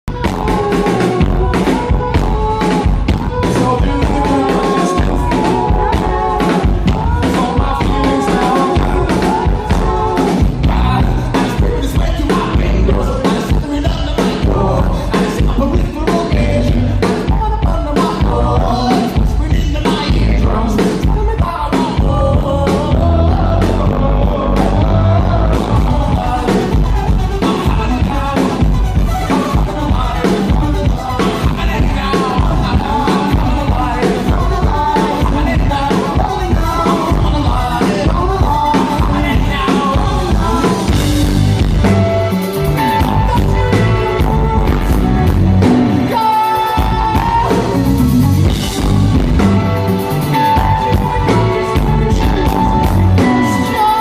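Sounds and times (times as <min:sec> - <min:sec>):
drums: 0:00.0 - 0:54.0
heavy bass: 0:00.0 - 0:54.0
person singing: 0:00.0 - 0:54.0.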